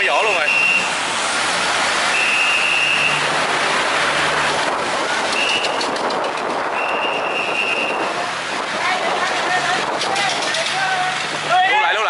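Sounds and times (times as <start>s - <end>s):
fast-flowing water churning: 0.0s - 12.0s.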